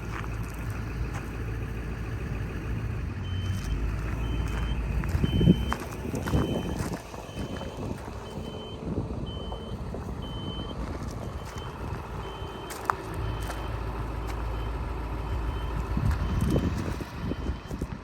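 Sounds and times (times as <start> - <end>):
diesel engine running: 0.0 - 18.0
reverse alarm beeping: 2.8 - 17.9.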